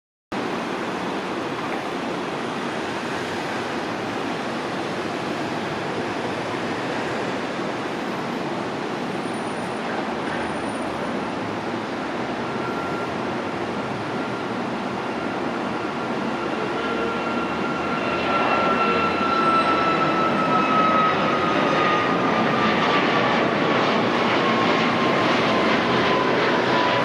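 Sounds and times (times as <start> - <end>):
jet engines at takeoff power: 0.4 - 27.0.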